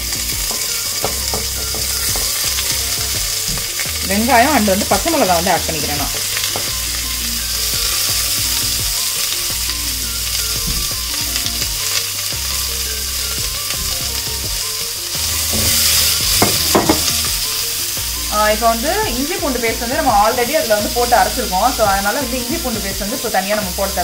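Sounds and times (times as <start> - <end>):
onions sizzling in hot ghee: 0.0 - 24.0.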